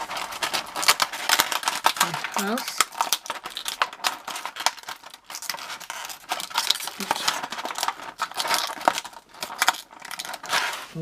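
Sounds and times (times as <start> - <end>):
plastic pieces clicking: 0.0 - 10.8
plastic packaging crinkling: 0.0 - 11.0.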